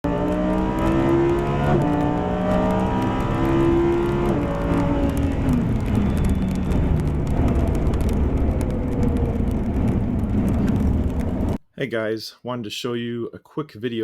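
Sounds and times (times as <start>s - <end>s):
car engine accelerating: 0.0s - 11.6s.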